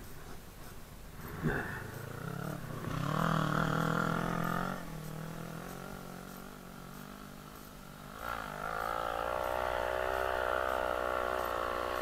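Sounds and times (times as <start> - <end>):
quad engine revving: 1.2 - 12.0.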